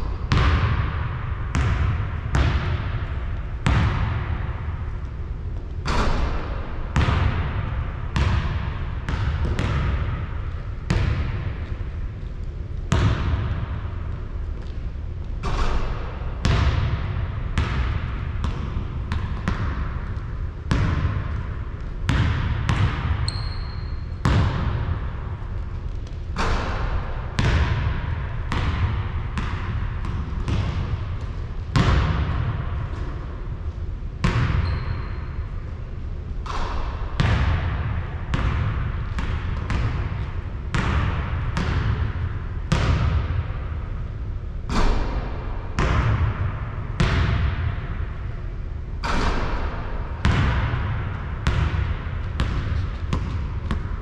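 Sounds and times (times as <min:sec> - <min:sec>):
basketball bouncing: 0:00.0 - 0:35.6, 0:36.4 - 0:43.8, 0:44.7 - 0:48.0, 0:49.0 - 0:54.0.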